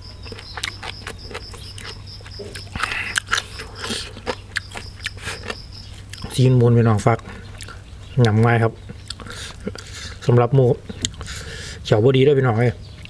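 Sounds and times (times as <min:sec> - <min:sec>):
man chewing with wet crunches: 0:00.0 - 0:11.9.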